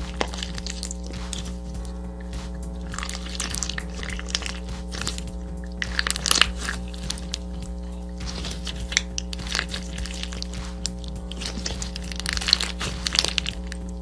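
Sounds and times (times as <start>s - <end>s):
background music: 0.0s - 14.0s
slime crackling and popping: 0.0s - 14.0s.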